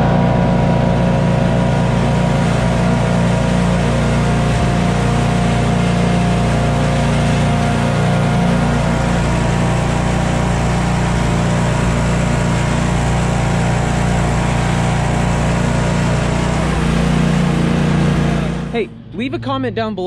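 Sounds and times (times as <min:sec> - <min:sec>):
mower engine running steadily: 0:00.0 - 0:19.2.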